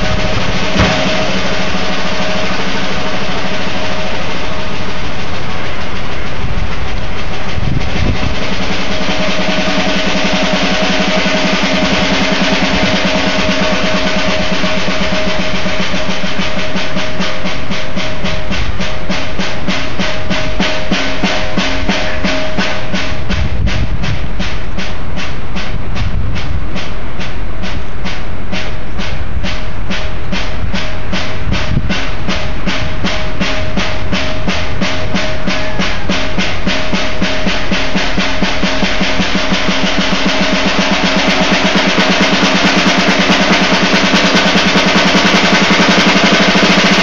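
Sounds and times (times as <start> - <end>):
jazz drum kit solo: 0.0 - 47.0.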